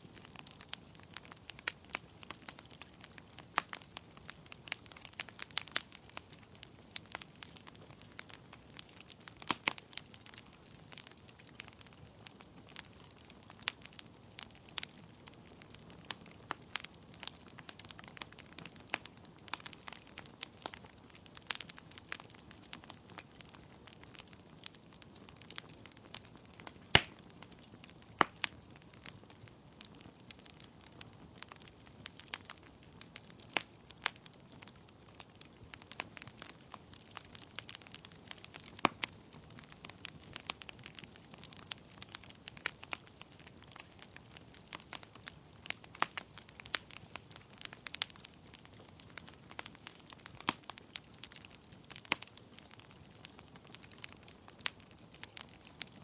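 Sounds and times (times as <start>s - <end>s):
burning logs crackling and popping: 0.0s - 56.0s.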